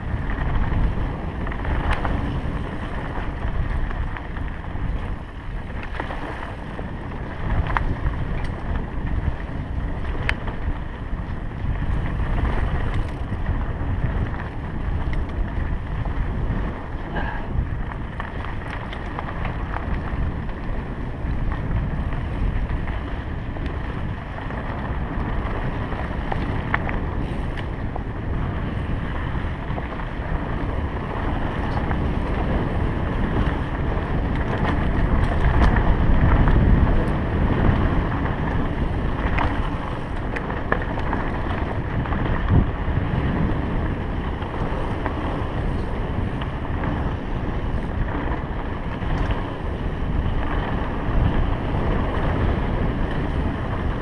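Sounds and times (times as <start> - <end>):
bike clicks and rattles: 0.0 - 54.0
tyres rolling over dirt and stones: 0.0 - 54.0
wind buffeting microphone: 0.0 - 54.0.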